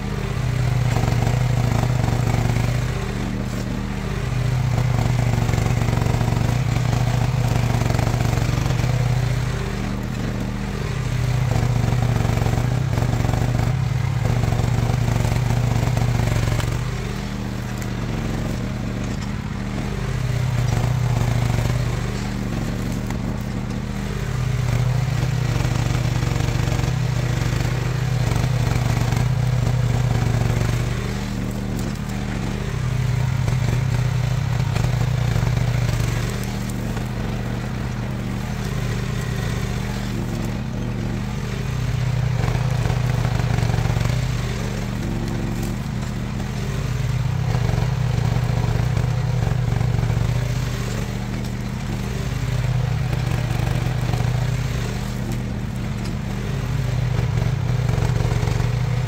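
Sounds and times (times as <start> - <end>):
mini excavator engine running: 0.0 - 59.0.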